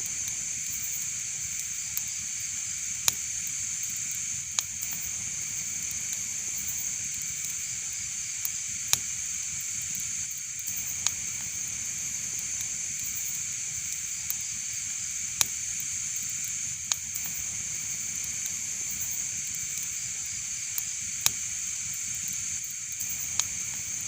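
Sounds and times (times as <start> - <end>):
wood fire hissing and popping: 0.0 - 24.0.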